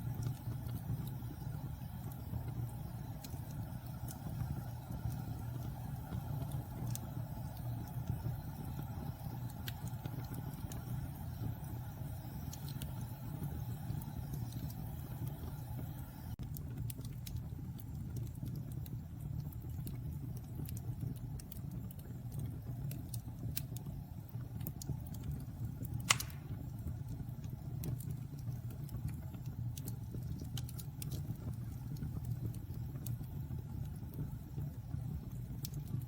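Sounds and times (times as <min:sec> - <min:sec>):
fire crackling and popping: 0:00.0 - 0:36.0
fire flames rumbling: 0:00.0 - 0:36.0.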